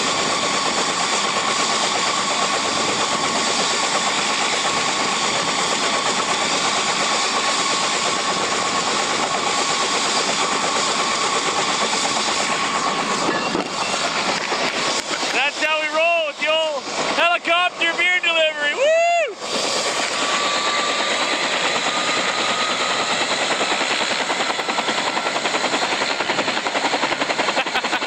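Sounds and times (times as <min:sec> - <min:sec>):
helicopter rotor chop: 0:00.0 - 0:28.0
helicopter turbine whine: 0:00.0 - 0:28.0.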